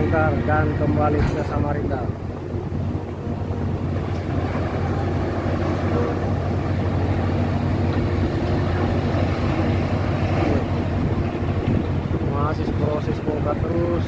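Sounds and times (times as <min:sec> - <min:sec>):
low drone of ship machinery: 0:00.0 - 0:14.0.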